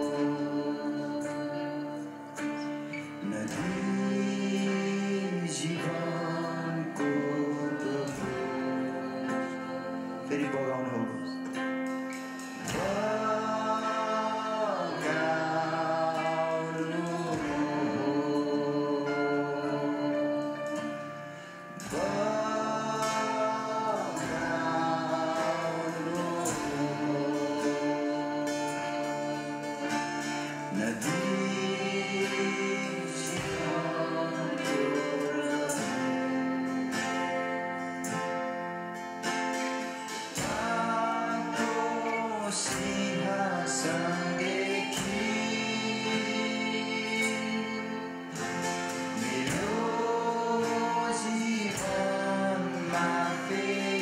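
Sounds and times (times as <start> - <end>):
group singing worship song: 0.0 - 54.0
guitars: 0.0 - 54.0
keyboard: 0.0 - 54.0.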